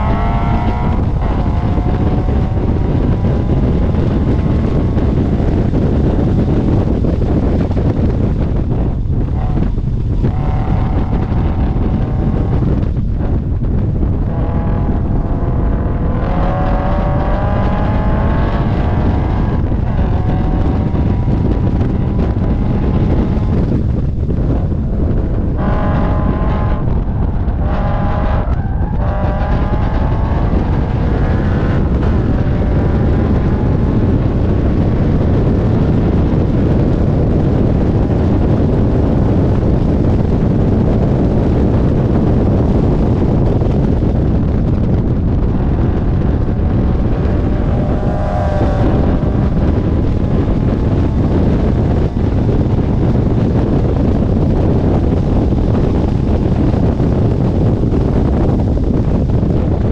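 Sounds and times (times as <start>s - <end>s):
car engine revving hard: 0.0s - 59.9s
wind rush on microphone: 0.0s - 59.9s.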